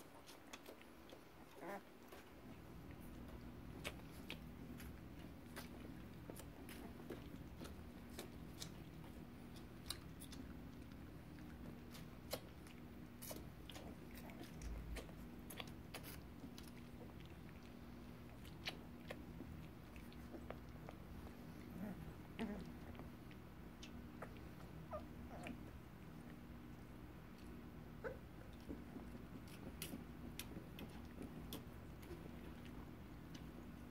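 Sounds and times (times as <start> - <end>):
puppies mouthing and smacking: 0.0 - 33.9
steady low hum: 0.0 - 33.9.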